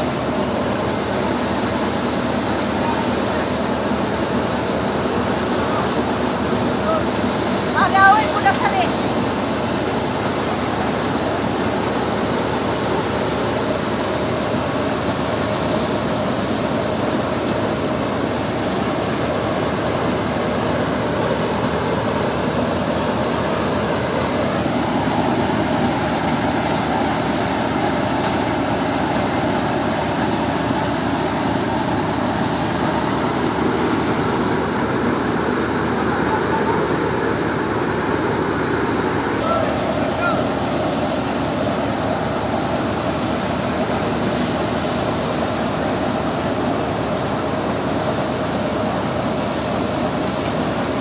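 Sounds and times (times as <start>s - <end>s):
thresher running: 0.0s - 51.0s.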